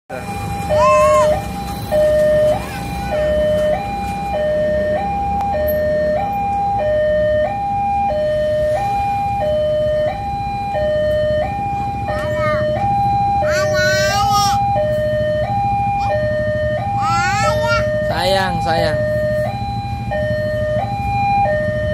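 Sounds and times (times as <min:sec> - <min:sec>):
level-crossing two-tone alarm: 0:00.2 - 0:21.9.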